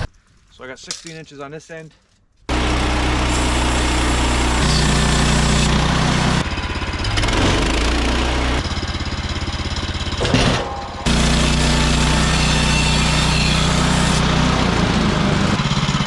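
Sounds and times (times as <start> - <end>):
sawmill gas engine running: 2.5 - 16.0.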